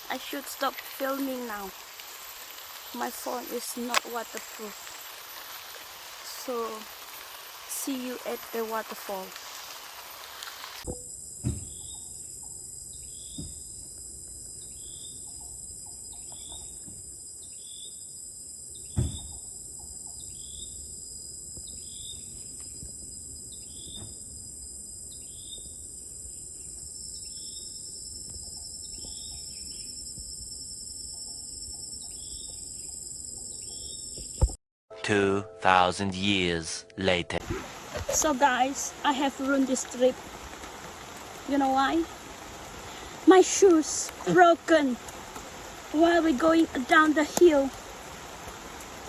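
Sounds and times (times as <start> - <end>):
insects droning: 0.0 - 34.5, 37.4 - 49.0.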